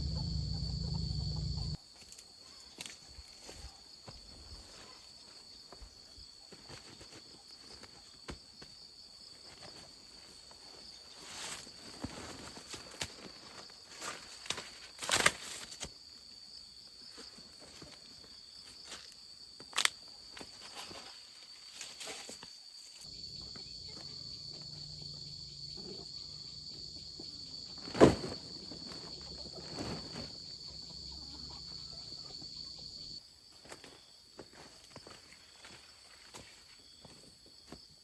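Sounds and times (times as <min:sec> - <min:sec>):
insects chirring: 0:00.0 - 0:01.8, 0:08.7 - 0:38.0.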